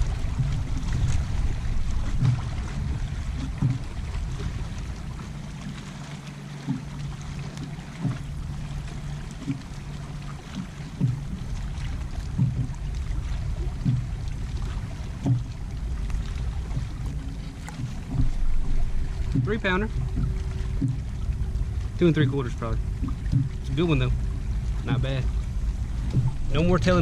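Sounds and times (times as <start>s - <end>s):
low rumble: 0.0s - 27.0s
waves slapping boat hull: 0.0s - 27.0s.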